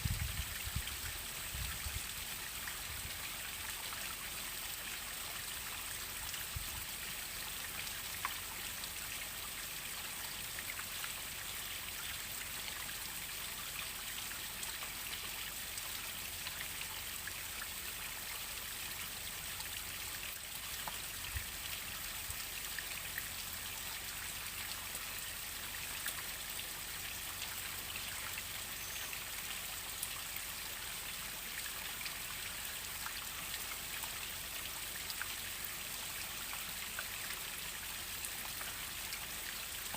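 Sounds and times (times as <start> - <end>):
small drips and splashes: 0.0 - 39.9.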